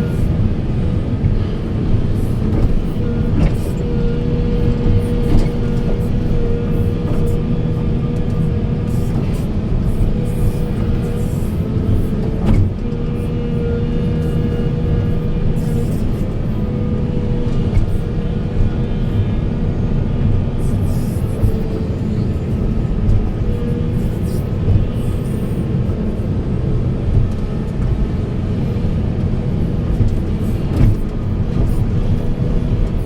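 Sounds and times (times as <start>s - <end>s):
excavator diesel engine under load: 0.0s - 33.0s.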